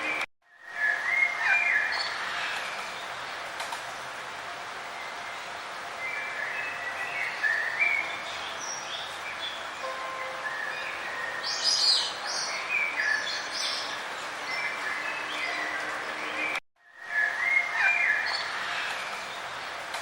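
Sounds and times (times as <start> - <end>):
songbirds chirping: 0.0 - 20.0
steady background hiss: 0.0 - 20.0.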